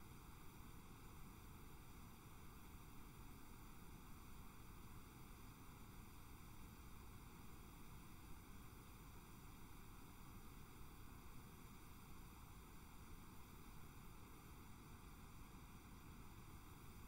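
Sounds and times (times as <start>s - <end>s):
faint recording static hiss: 0.0s - 17.0s.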